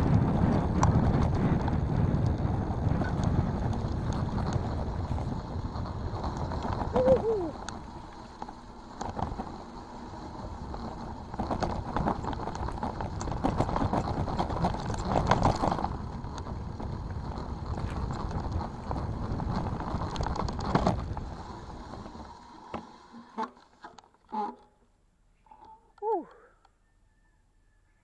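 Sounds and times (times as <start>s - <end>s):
wind rumble on microphone: 0.0s - 22.4s
bike rattling over ground: 0.0s - 24.8s.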